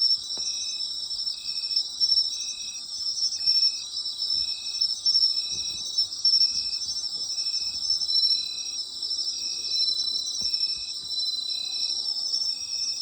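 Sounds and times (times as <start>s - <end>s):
insect calling rhythmically: 0.0s - 13.0s.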